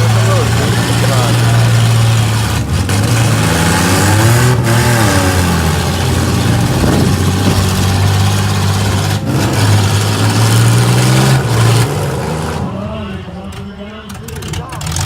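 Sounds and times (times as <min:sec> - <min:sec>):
low engine drone: 0:00.0 - 0:15.0
minivan engines revving: 0:00.0 - 0:15.0.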